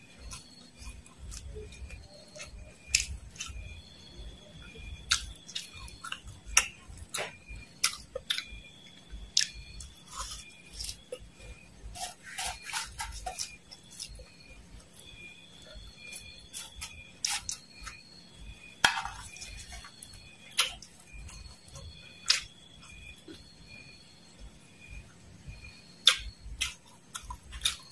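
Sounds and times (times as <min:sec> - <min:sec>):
crunching and chewing: 0:00.0 - 0:23.8, 0:24.9 - 0:27.9.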